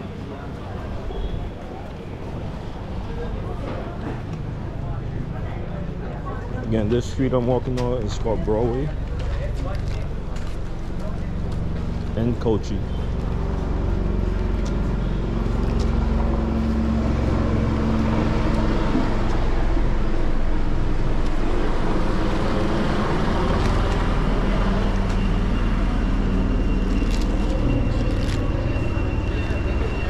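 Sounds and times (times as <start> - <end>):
motor vehicle engines running: 0.0 - 30.0.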